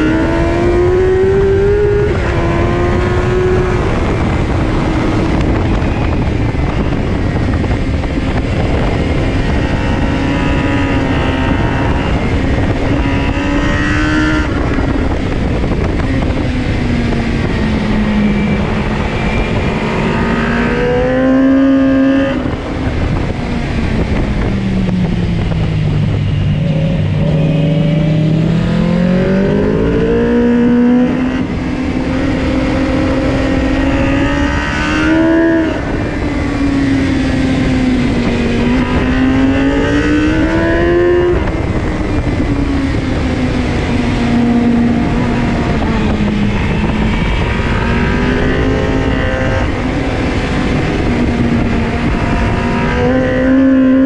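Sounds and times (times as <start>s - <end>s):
motorbike engine revving: 0.0s - 54.0s
wind rush: 0.0s - 54.0s.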